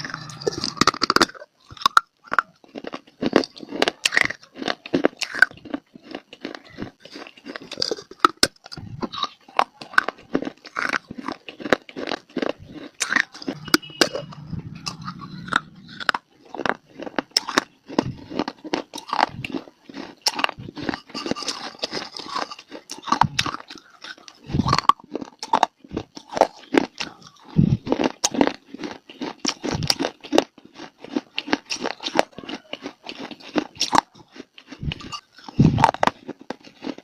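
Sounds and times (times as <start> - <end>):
person crunching and chewing clay: 0.0 - 37.0.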